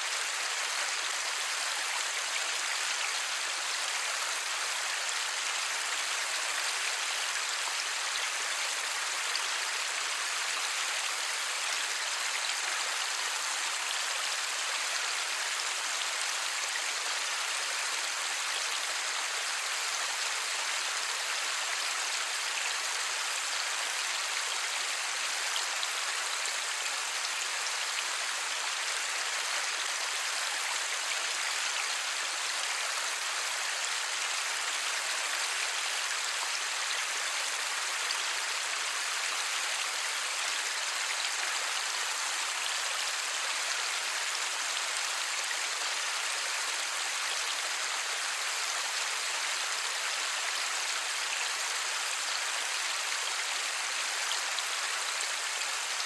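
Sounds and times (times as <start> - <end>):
steady light rain: 0.0 - 56.0.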